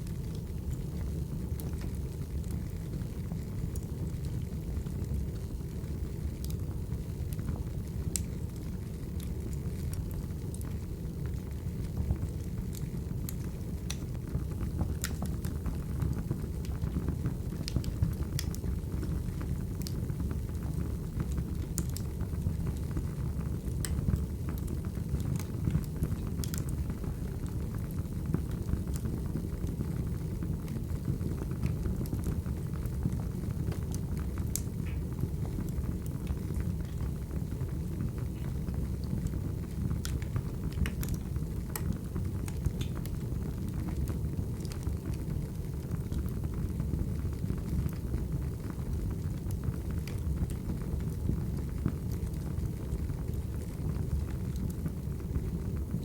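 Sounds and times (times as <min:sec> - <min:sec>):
burning logs crackling: 0:00.0 - 0:56.0
low rumble of flames: 0:00.0 - 0:56.0.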